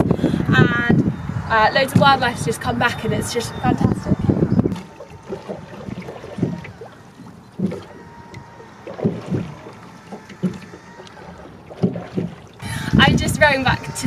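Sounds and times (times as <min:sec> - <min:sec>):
oars creaking in rowlocks: 0:00.0 - 0:14.0
oars splashing through water: 0:01.8 - 0:14.0.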